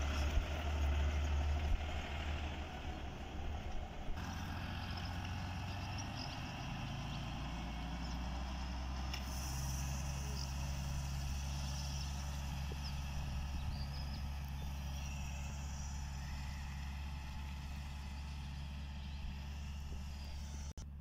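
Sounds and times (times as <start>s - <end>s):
distant tractor engine: 0.0s - 21.0s.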